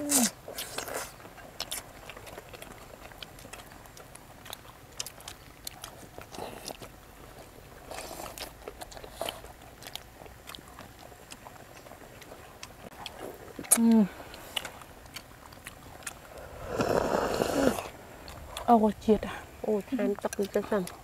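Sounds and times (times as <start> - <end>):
chewing and crunching: 0.0 - 21.0.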